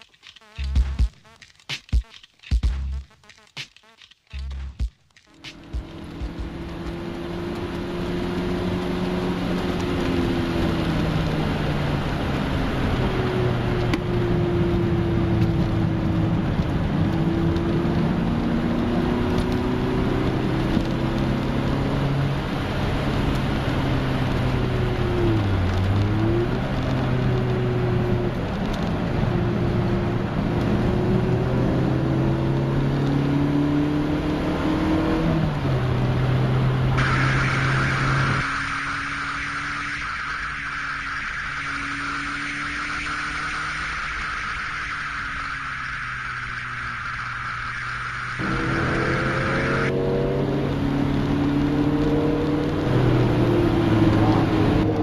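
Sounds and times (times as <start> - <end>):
road noise rushing: 4.3 - 55.0
car engine revving: 4.4 - 55.0.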